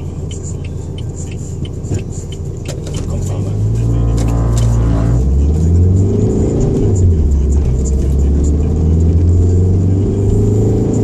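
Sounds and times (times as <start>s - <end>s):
car engine and road rumble: 0.0s - 11.0s
car radio music: 0.0s - 11.0s.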